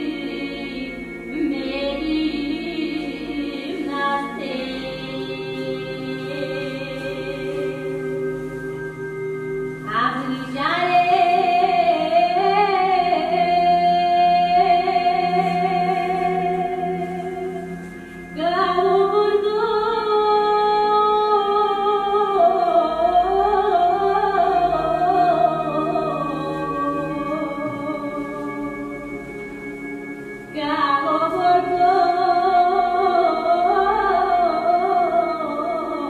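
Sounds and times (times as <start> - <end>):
low drone: 0.0 - 35.2.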